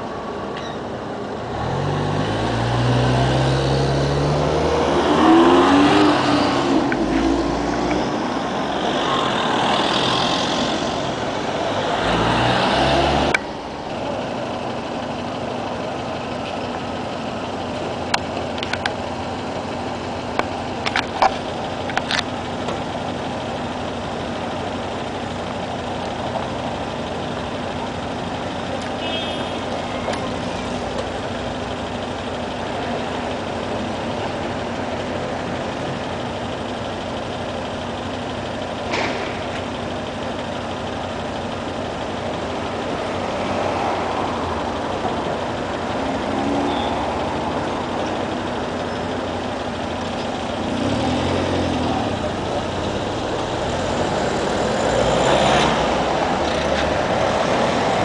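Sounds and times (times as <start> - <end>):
cars passing on road: 0.0 - 58.0.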